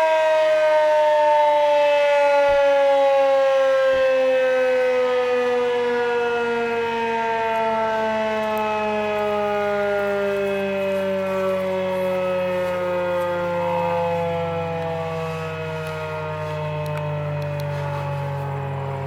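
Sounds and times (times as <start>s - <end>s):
warning siren winding down: 0.0s - 19.0s.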